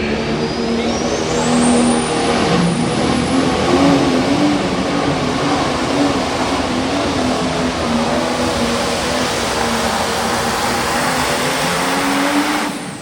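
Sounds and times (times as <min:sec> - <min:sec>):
diesel engine running hard: 0:00.0 - 0:13.0
high turbo whine: 0:00.0 - 0:13.0.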